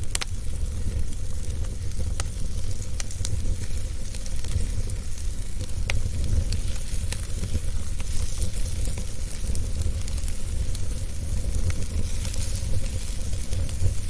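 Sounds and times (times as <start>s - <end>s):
fire burning with low rumble: 0.0s - 14.0s
fire crackles and pops: 0.0s - 14.0s.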